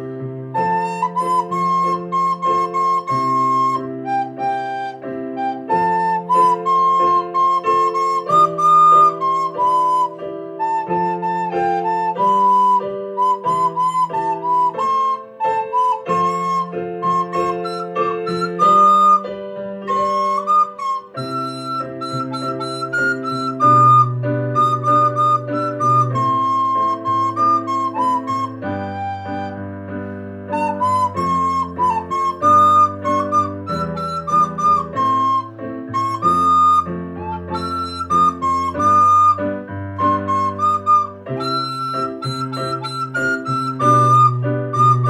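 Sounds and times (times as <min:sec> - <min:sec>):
soprano recorder melody: 0:00.0 - 0:45.0.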